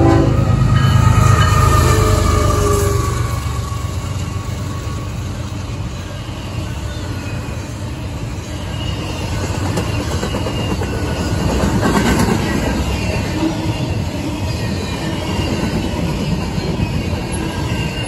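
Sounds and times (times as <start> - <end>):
freight train wheels on rails: 0.0 - 18.0
faint high squeal: 0.3 - 11.6, 12.3 - 18.0.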